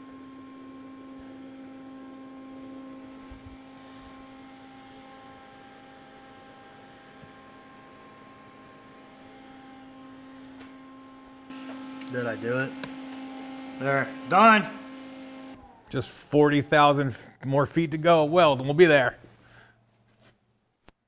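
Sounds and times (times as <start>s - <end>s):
welding arc buzzing: 0.0s - 16.9s.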